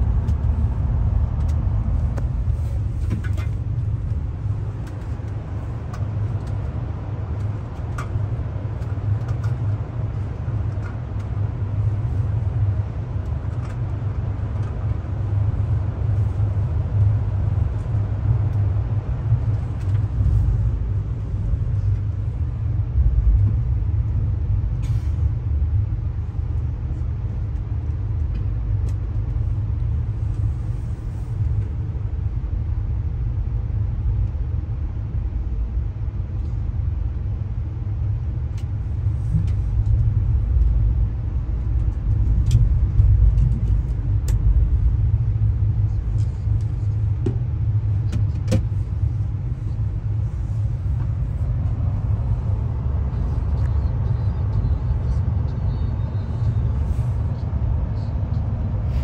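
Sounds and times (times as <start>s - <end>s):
rail car rumbling on track: 0.0s - 59.0s.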